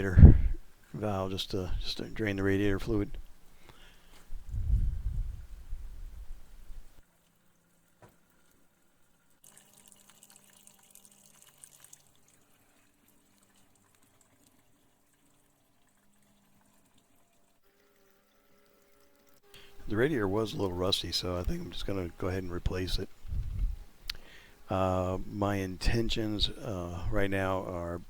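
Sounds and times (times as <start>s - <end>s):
faint liquid trickling: 0.0s - 28.0s.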